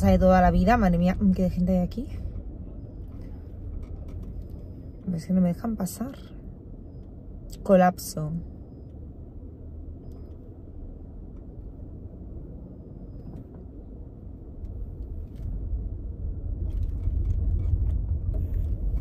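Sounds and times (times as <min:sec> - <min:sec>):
car engine rumble inside cabin: 0:00.0 - 0:19.0.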